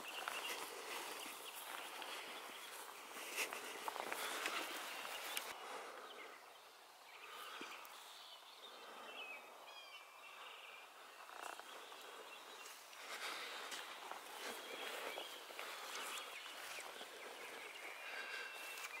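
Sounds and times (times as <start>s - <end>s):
small bird singing: 0.0s - 19.0s.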